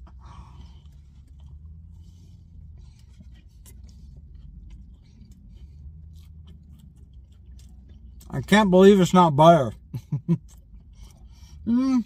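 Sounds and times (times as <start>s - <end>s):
person chewing biscuit: 0.0s - 12.0s
steady low hum: 0.0s - 12.0s.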